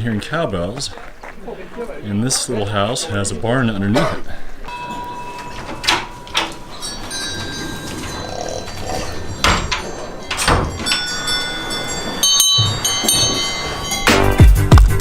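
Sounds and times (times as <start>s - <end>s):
cowbells clanking: 0.0s - 15.0s.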